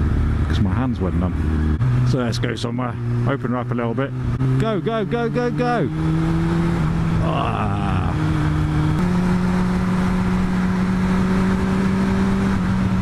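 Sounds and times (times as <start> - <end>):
motorcycle engine under throttle: 0.0 - 13.0.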